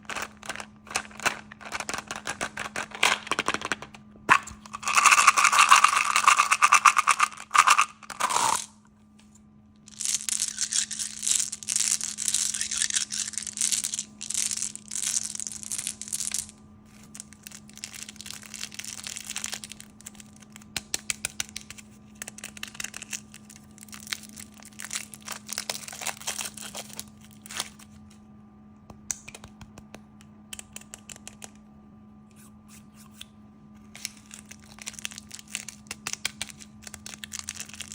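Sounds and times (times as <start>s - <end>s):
sweet wrappers crinkling: 0.0s - 8.7s, 9.9s - 28.1s, 33.9s - 37.9s
faint low hum: 0.0s - 37.9s.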